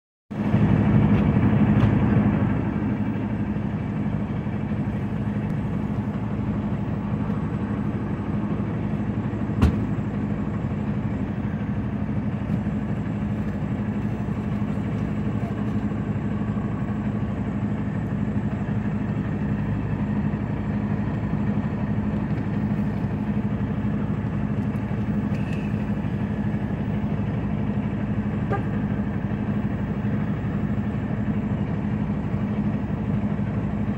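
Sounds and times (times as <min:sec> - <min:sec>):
truck engine idling: 0:00.3 - 0:33.9.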